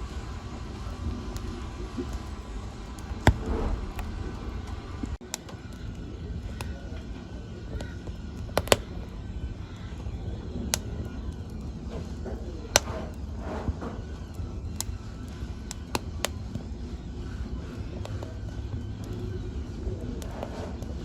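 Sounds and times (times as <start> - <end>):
low rumble of flames: 0.0 - 21.0
sharp pops of fire: 0.0 - 21.0
wood fire crackling: 0.0 - 21.0.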